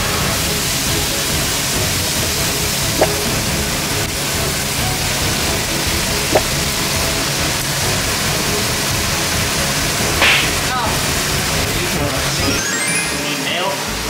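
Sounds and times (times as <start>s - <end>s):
fries bubbling in hot oil: 0.0s - 12.7s
background music: 0.0s - 14.0s.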